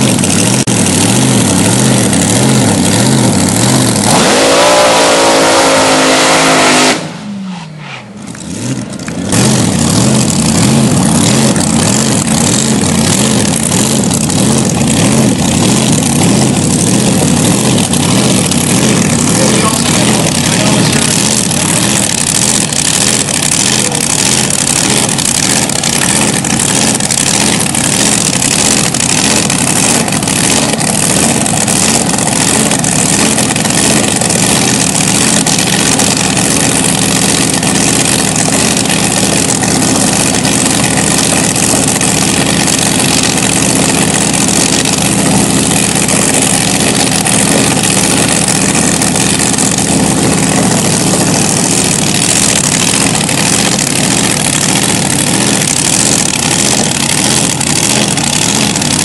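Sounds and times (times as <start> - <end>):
dragster engine idling loudly: 0.0 - 7.0, 8.0 - 59.0.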